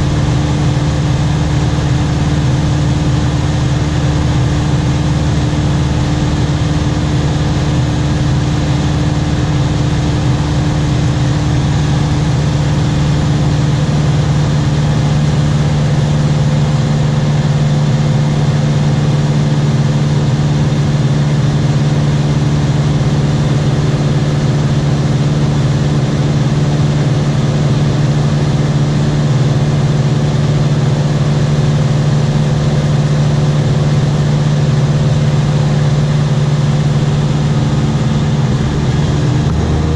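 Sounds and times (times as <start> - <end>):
small aircraft engine droning: 0.0 - 39.9.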